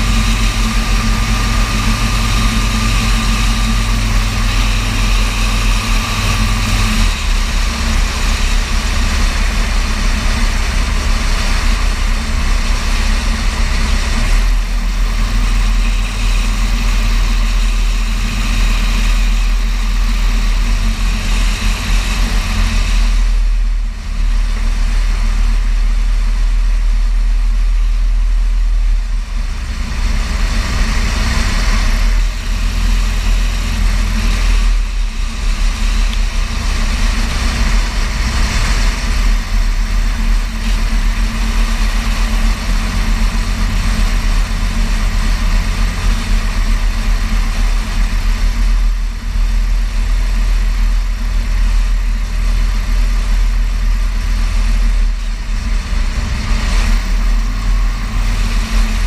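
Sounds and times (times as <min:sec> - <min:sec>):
propeller engine droning: 0:00.0 - 0:59.0.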